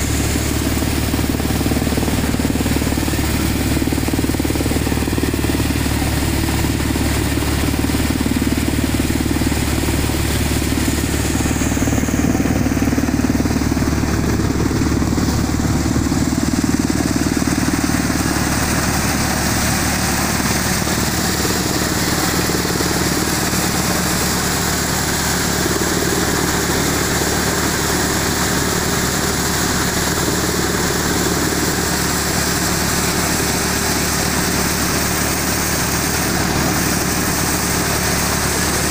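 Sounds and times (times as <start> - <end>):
threshing machine running: 0.0 - 38.9.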